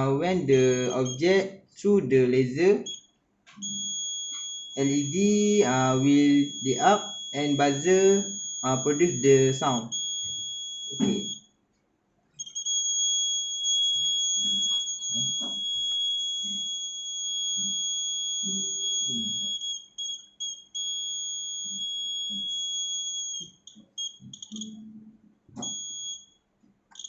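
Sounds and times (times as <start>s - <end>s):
high-pitched alarm buzzer: 2.6s - 11.5s, 12.4s - 24.9s, 25.6s - 26.3s.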